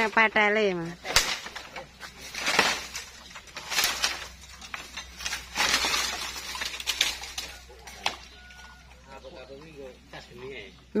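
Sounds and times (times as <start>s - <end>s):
bamboo leaves rustling: 0.0s - 10.2s.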